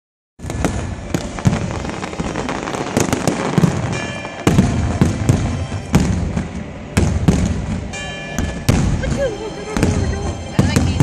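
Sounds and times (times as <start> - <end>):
fireworks bangs and booms: 0.4 - 11.0
fireworks crackling: 0.4 - 11.0.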